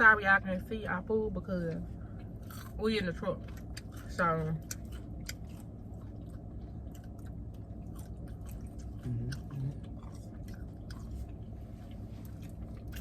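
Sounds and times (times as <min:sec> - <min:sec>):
low rumble in truck cabin: 0:00.0 - 0:13.0
chewing with wet mouth clicks: 0:01.7 - 0:13.0.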